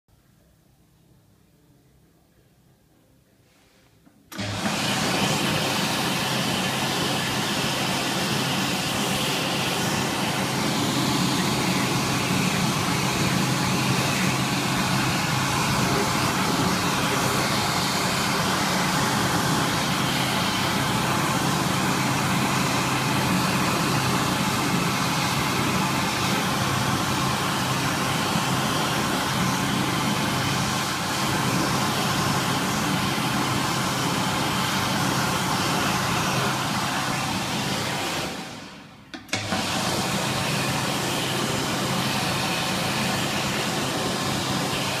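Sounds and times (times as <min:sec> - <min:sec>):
electric hand dryer running: 0:04.3 - 0:45.0.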